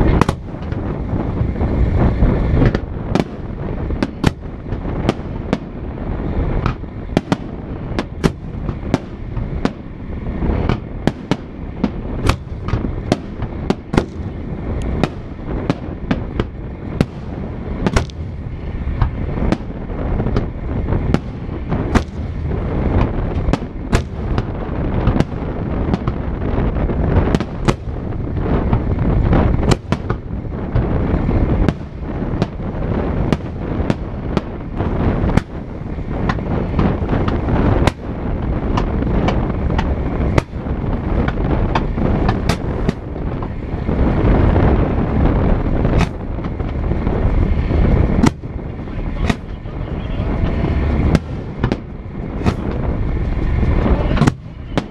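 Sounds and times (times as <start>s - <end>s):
continuous low rumble: 0.0s - 54.9s
fireworks bangs: 0.0s - 54.9s.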